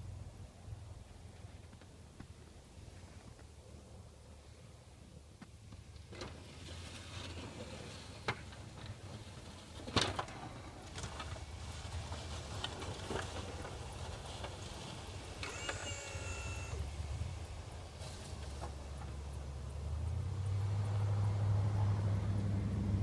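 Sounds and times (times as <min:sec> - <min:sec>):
pickup engine low rumble: 0:00.0 - 0:23.0.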